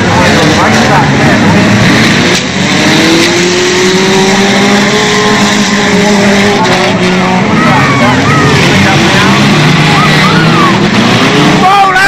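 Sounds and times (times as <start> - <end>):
car engines running: 0.0 - 12.0
engine revving: 0.0 - 12.0.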